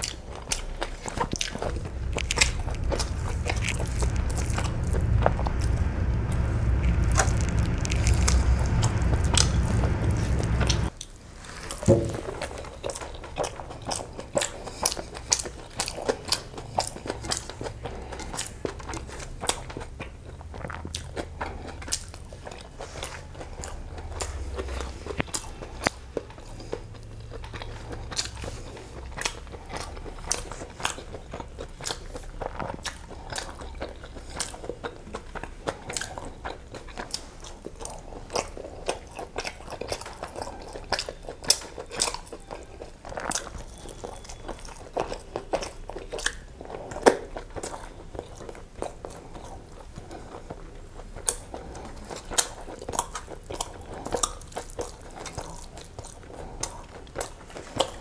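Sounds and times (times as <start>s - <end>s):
wet chewing with mouth clicks: 0.0s - 58.0s.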